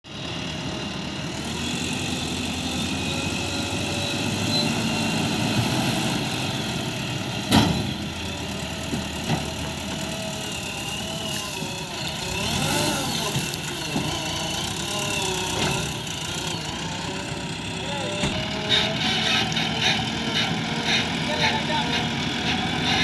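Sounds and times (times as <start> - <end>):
heavy diesel engine running: 0.1 - 23.0.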